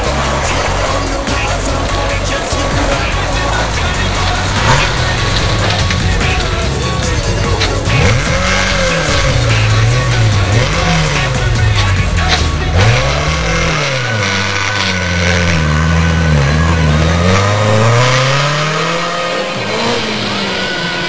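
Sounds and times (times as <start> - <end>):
rally car engine revving: 0.0 - 21.0
second car engine: 0.0 - 21.0.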